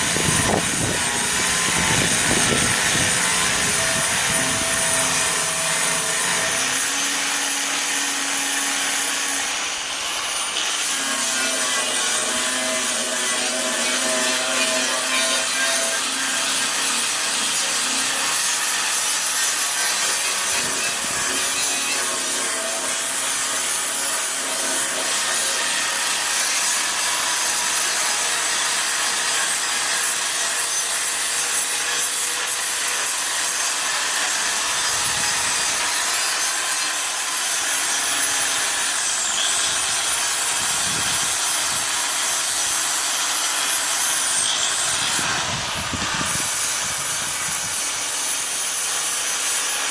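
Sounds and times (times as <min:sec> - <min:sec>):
power grinder grinding metal: 0:00.0 - 0:49.9.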